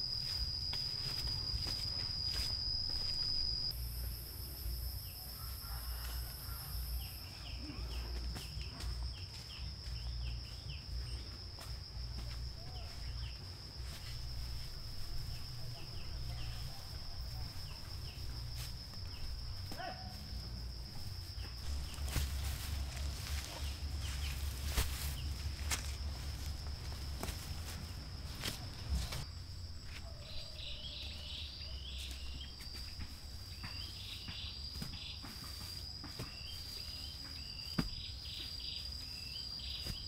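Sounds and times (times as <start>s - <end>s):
high-pitched insect trill: 0.0s - 40.0s.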